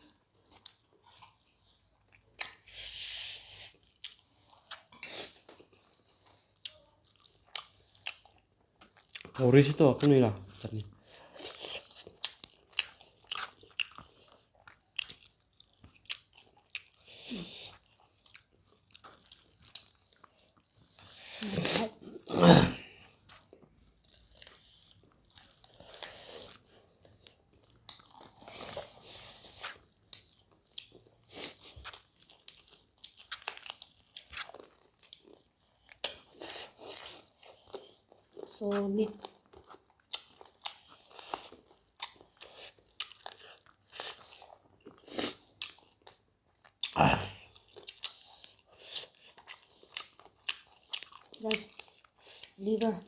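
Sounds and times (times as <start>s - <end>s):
people chewing wet mouth sounds: 0.0s - 53.0s.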